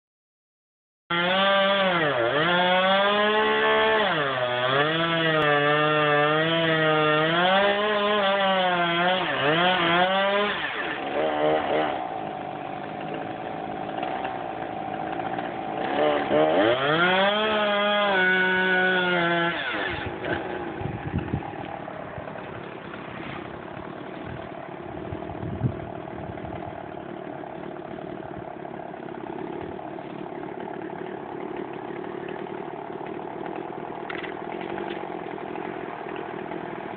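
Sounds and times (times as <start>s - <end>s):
chainsaw cutting tree: 1.1s - 36.9s.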